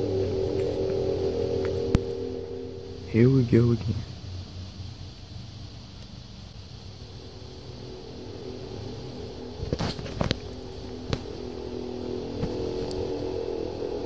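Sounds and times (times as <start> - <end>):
low droning hum: 0.0 - 14.0.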